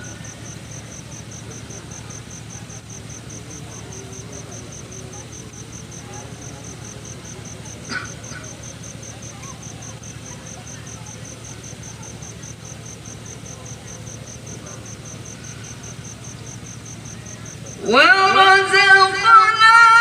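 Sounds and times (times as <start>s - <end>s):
insect chirping: 0.0s - 20.0s
low background hum: 0.0s - 20.0s.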